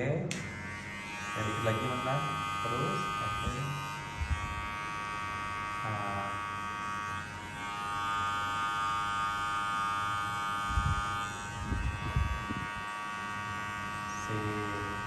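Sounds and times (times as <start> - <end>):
hair clipper buzzing: 0.3 - 15.0.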